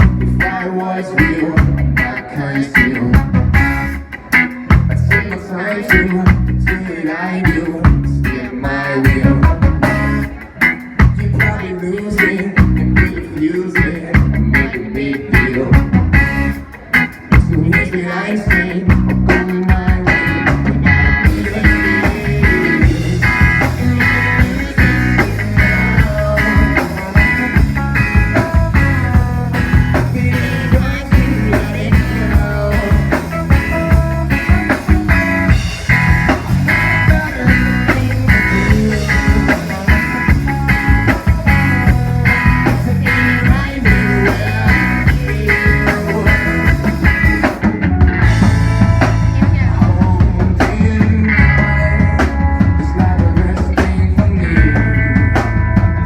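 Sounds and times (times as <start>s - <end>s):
bass guitar: 0.0s - 56.0s
rock band playing: 0.0s - 56.0s.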